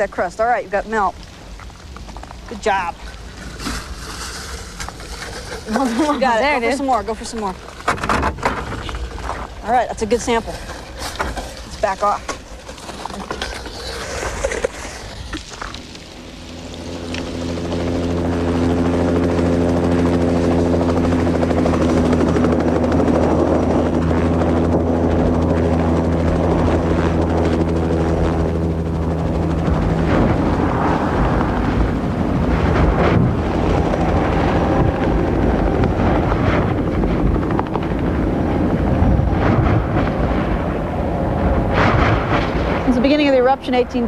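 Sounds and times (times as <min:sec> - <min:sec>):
helicopter engine and rotor: 0:04.8 - 0:13.4, 0:16.1 - 0:44.0.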